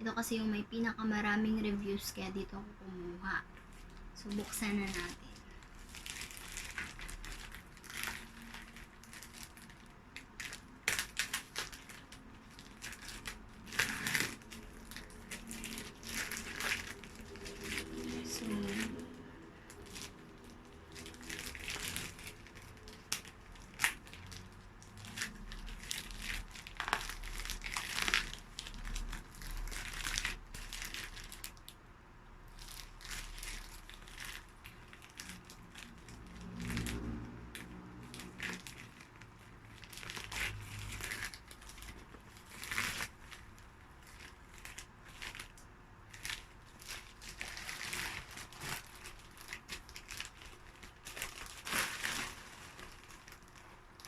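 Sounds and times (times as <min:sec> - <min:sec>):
packaging tearing and crinkling: 0:03.6 - 0:31.8, 0:32.5 - 0:54.0.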